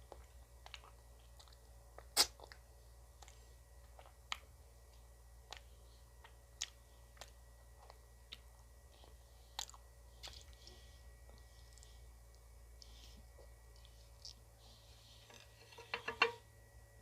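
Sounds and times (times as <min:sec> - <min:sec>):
person chewing ice cream: 0:00.0 - 0:15.3.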